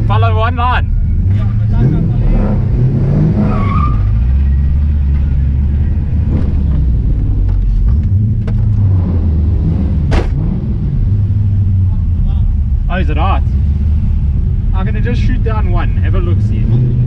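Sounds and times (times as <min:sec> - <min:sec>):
car engine rumbling at low revs: 0:00.0 - 0:17.0.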